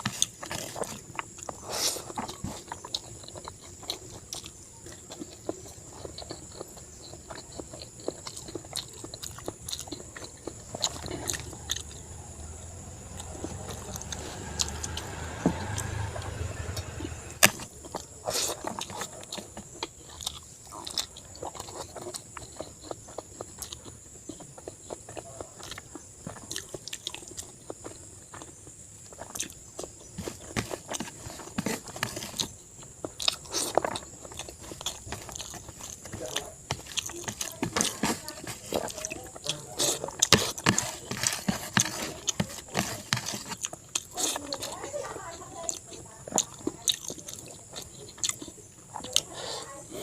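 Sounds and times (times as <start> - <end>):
close chewing and mouth smacks: 0.0 - 50.0.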